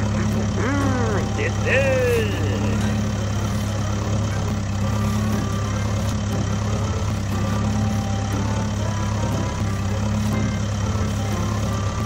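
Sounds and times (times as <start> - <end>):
heavy machine engine idling: 0.0 - 12.0.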